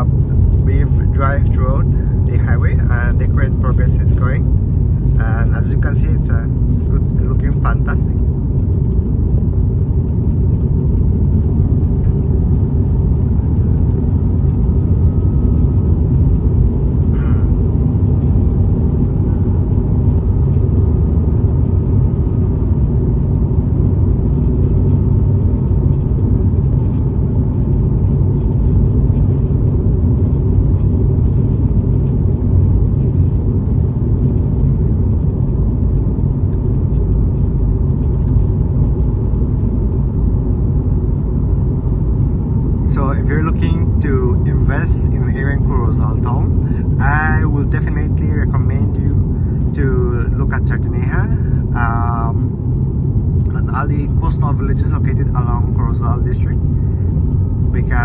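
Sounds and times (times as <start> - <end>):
faint whine: 0.0 - 58.0
road and engine rumble: 0.0 - 58.0.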